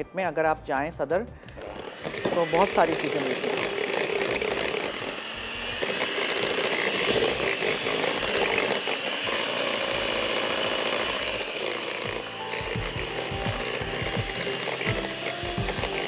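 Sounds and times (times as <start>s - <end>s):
electric hand mixer running: 1.4s - 16.0s.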